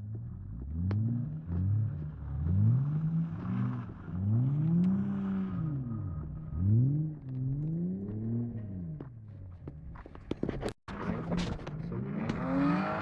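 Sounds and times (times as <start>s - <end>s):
car engine revving: 0.0s - 9.1s, 11.0s - 13.0s.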